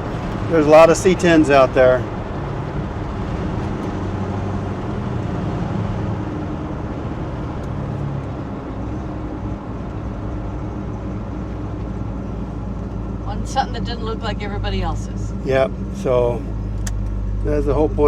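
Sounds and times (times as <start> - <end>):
pickup engine running: 0.0 - 18.0
road noise: 0.0 - 18.0.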